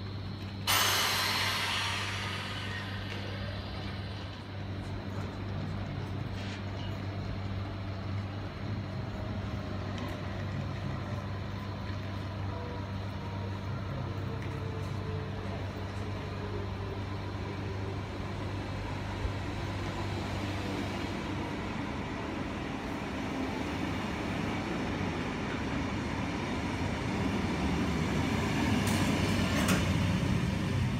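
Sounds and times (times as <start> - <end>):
train running into platform: 0.0 - 30.9.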